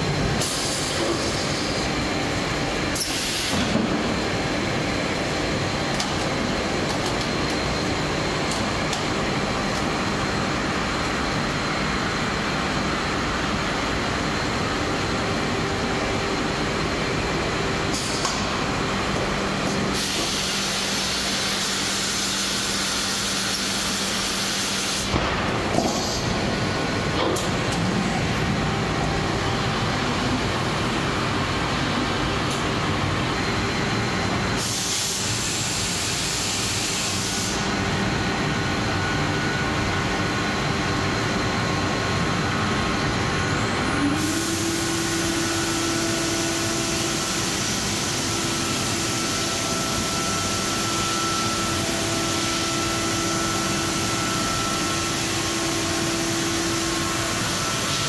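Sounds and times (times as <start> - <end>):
cnc router running: 0.0 - 58.0.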